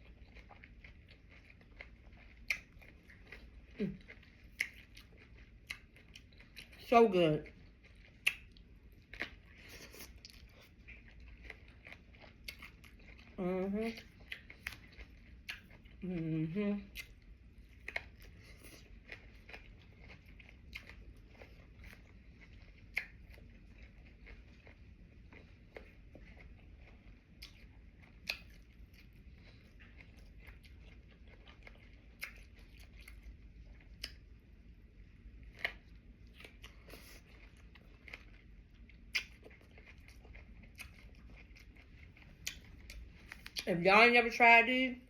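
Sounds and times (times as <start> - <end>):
chewing crunchy food: 0.0 - 44.5.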